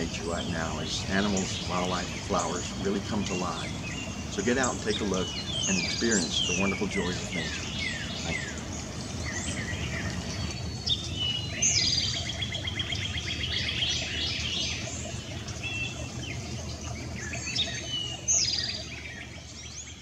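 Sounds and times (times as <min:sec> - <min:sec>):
low background rumble: 0:00.0 - 0:20.0
songbirds singing: 0:00.0 - 0:20.0.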